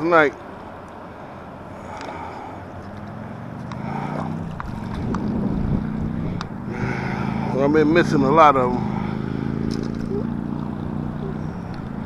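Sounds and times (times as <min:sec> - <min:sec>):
motor engine humming: 0:01.1 - 0:12.0.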